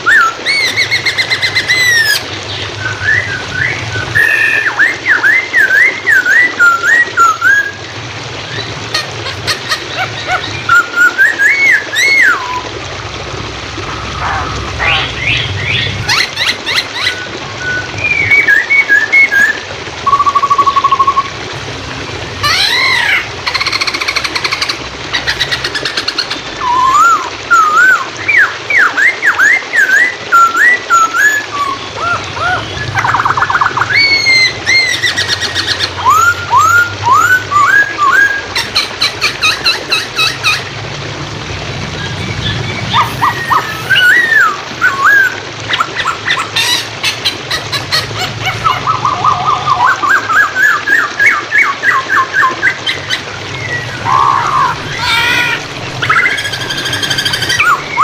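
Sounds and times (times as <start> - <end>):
laughingthrush singing whistles and trills: 0.0 - 12.8, 13.8 - 21.4, 22.4 - 40.6, 42.0 - 58.0
running water: 0.0 - 58.0.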